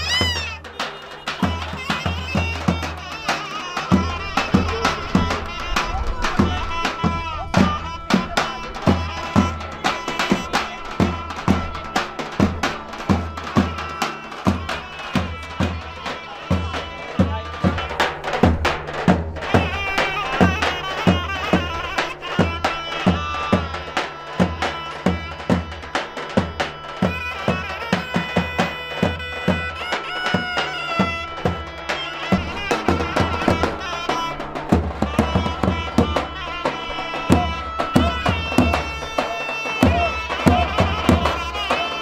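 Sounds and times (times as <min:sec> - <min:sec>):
reedy wind instrument melody: 0:00.0 - 0:42.0
strongly beaten drum: 0:00.0 - 0:42.0.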